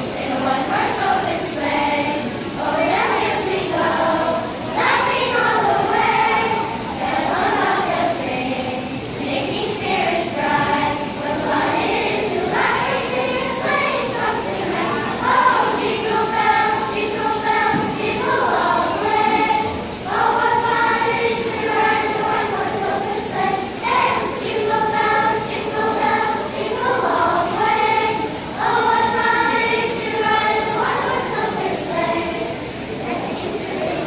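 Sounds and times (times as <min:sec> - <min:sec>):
children's choir singing: 0:00.0 - 0:34.0.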